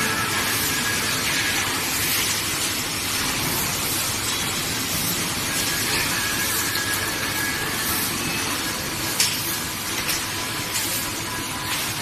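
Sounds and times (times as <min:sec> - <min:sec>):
factory noise hiss: 0:00.0 - 0:12.0
tape-wrapping machine: 0:00.0 - 0:12.0.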